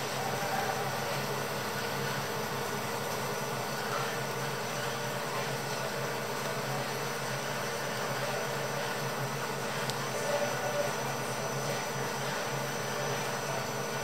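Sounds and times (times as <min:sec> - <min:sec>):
machine humming and hissing: 0:00.0 - 0:14.0.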